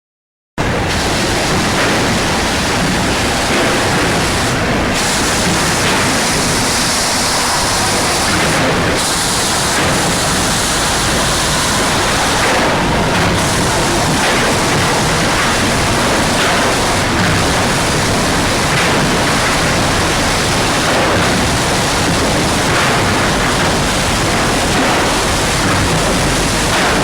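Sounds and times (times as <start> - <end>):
sanding machine hissing: 1.0 - 26.8.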